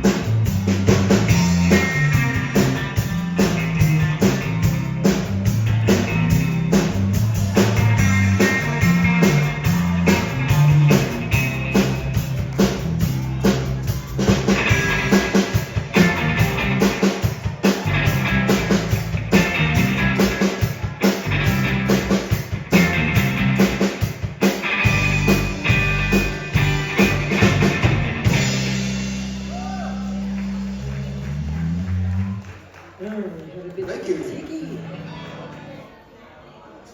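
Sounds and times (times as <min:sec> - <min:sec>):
drum beat: 0:00.0 - 0:30.4
electric guitar: 0:00.0 - 0:32.5
bass: 0:00.0 - 0:36.0.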